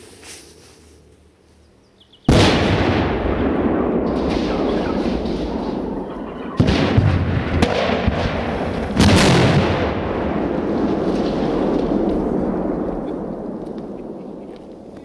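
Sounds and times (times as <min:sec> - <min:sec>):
continuous low rumble: 0:00.0 - 0:15.0
pyrotechnic explosions: 0:02.3 - 0:15.0.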